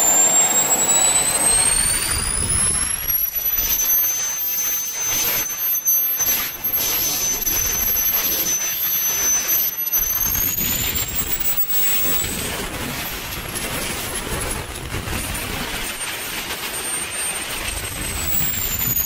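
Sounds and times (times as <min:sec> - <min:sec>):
high compressor whine: 0:00.0 - 0:19.0
model jet turbine rushing: 0:00.0 - 0:19.0.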